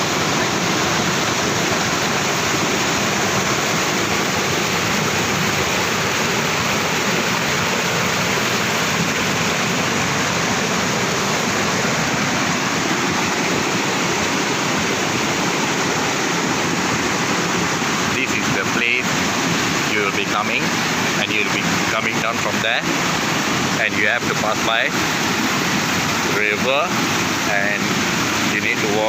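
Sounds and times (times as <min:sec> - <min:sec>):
water rushing steadily: 0:00.0 - 0:29.0.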